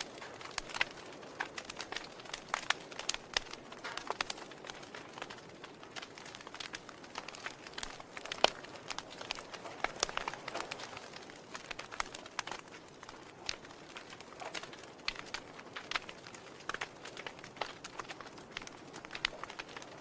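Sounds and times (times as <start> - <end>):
soft fire hiss: 0.0 - 20.0
wood fire crackling and popping: 0.0 - 20.0.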